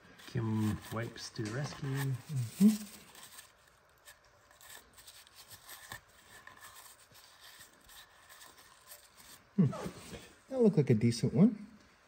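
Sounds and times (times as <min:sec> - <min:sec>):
tissue rubbing and rustling: 0:00.1 - 0:10.1.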